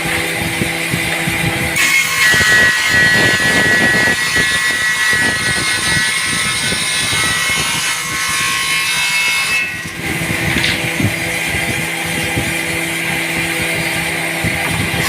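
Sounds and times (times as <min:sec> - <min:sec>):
table saw cutting wood: 0:00.0 - 0:15.0.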